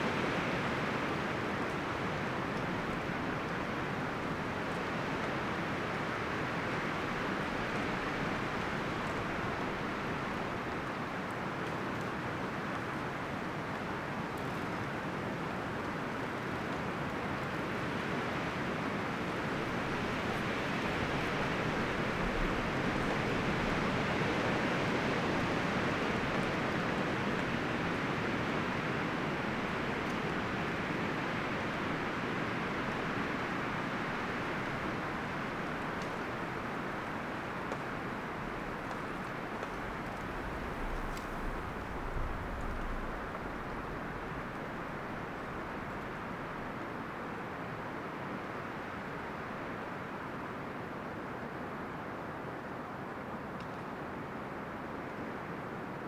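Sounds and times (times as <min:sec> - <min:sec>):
wind rustling forest trees: 0:00.0 - 0:56.0.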